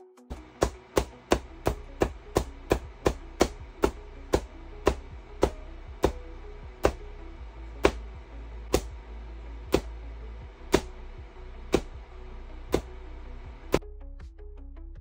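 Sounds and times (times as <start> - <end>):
background music with simple melody: 0.0 - 15.0
low hum and hiss: 0.3 - 13.8.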